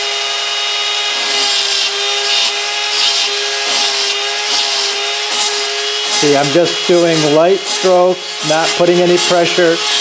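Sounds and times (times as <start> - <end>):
bit grinding metal: 0.0 - 10.0
rotary grinder whine: 0.0 - 10.0.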